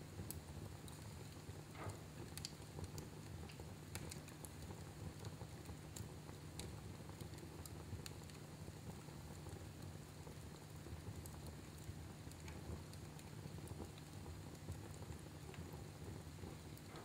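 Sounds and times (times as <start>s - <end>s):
low rumble of flames: 0.0s - 17.0s
fire pops and snaps: 0.2s - 17.0s.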